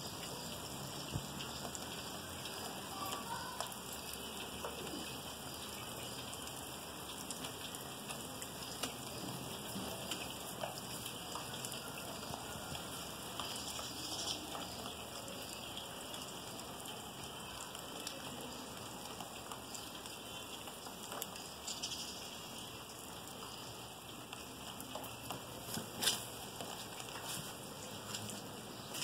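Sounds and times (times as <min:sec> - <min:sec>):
rain on concrete rooftop: 0:00.0 - 0:29.0.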